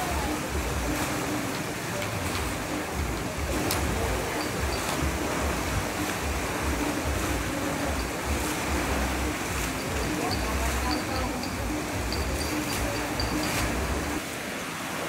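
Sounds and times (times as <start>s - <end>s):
turbulent water churning: 0.0s - 15.0s
wind rumbling on microphone: 0.0s - 15.0s.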